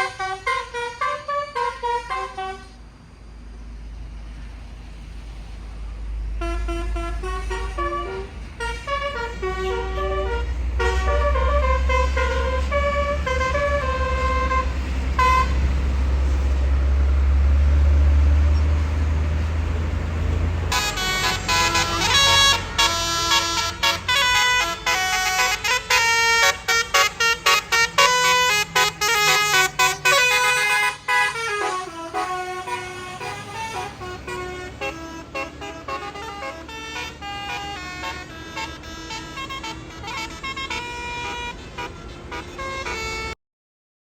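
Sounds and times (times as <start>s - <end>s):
musical bus horn melody: 0.0s - 2.8s, 6.3s - 43.4s
bus engine rumble: 0.0s - 43.4s.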